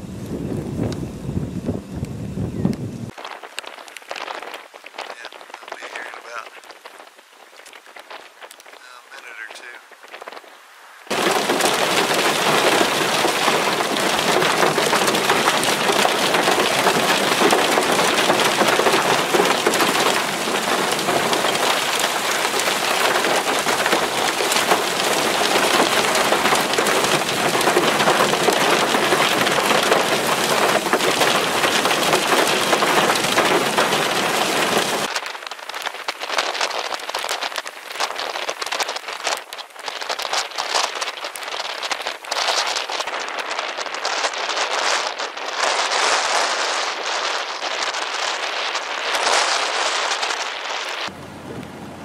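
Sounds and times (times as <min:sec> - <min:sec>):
hail and rain pelting down: 0:03.1 - 0:10.5, 0:11.1 - 0:51.1.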